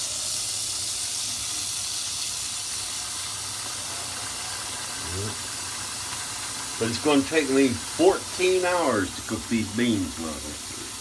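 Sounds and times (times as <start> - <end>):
beans rinsed under water: 0.0 - 11.0
kitchen tap running: 0.0 - 11.0.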